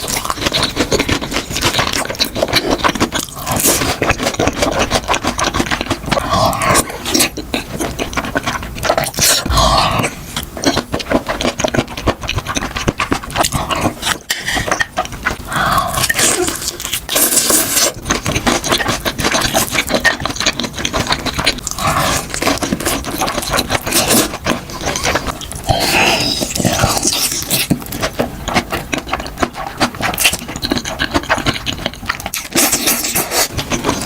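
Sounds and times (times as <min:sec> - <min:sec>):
breathy mouth noises: 0:00.0 - 0:34.0
wet chewing and lip-smacking: 0:00.0 - 0:34.0.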